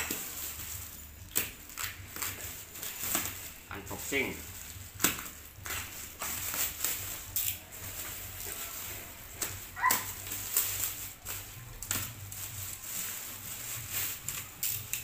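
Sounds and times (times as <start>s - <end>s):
packing tape ripping: 0.0s - 15.0s
plastic wrapping crinkling: 0.0s - 15.0s.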